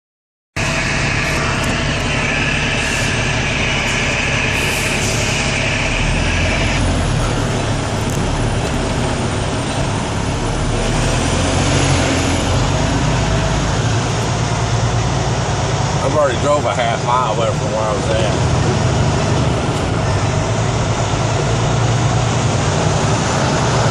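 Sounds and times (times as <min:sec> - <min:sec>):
high band of noise: 0:00.6 - 0:23.9
road and tyre noise: 0:00.6 - 0:23.9
truck diesel engine running: 0:00.6 - 0:23.9.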